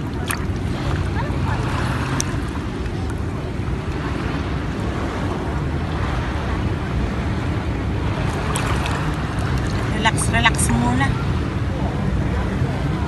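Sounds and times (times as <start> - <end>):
small waves lapping: 0.0 - 13.0
wind rumble on microphone: 0.0 - 13.0.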